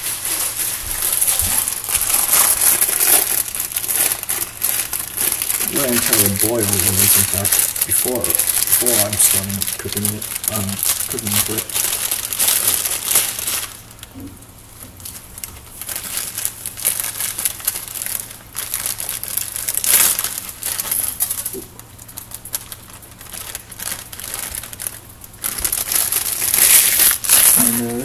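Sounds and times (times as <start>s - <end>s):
faint low hum: 0.0s - 28.0s
plastic wrapper crinkling: 0.0s - 28.0s.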